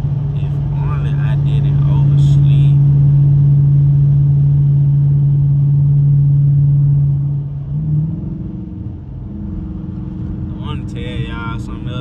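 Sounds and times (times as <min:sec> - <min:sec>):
car engine drone from inside cabin: 0:00.0 - 0:12.0.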